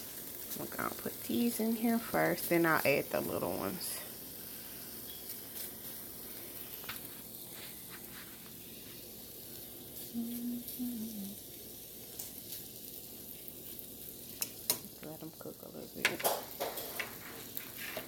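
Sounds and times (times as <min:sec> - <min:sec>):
shrimp sizzling in frying pan: 0:00.0 - 0:18.0.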